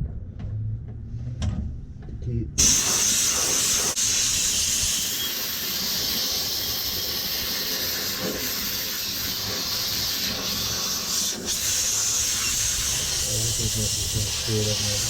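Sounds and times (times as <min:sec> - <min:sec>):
air blow gun hissing: 0:02.6 - 0:15.0.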